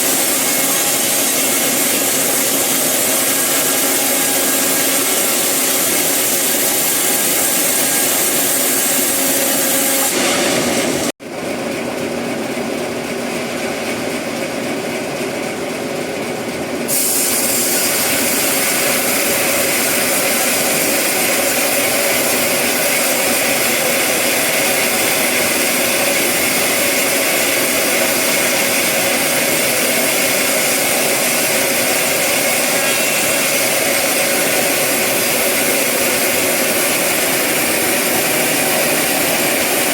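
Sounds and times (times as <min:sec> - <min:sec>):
sawmill saw cutting wood: 0:00.0 - 0:11.2, 0:16.9 - 0:39.9.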